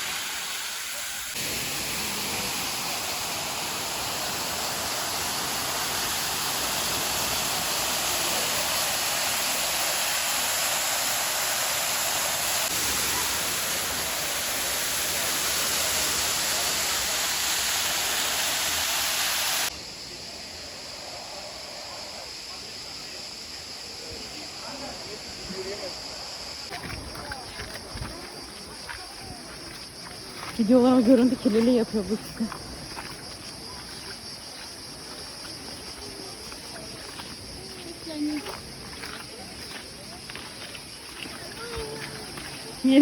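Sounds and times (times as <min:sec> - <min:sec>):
rushing flowing water: 0:00.0 - 0:19.8, 0:26.6 - 0:43.0.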